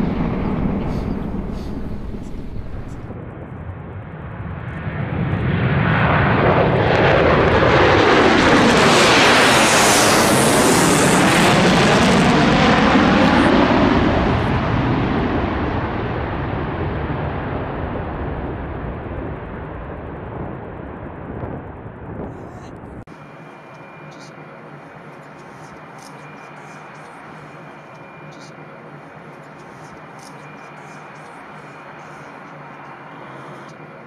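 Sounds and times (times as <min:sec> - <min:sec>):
jet bomber passing low overhead: 0:00.0 - 0:34.0.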